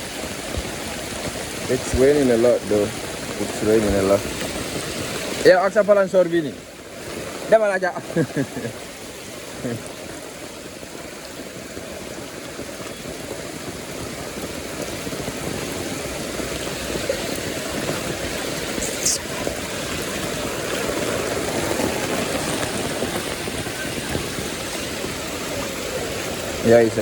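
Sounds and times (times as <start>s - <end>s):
rain drumming on an umbrella: 0.0s - 27.0s
runoff water rushing: 0.0s - 27.0s.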